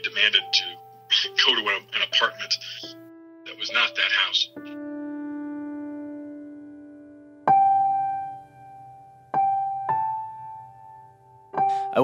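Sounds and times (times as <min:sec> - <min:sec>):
slow sparse piano music: 0:00.0 - 0:12.0.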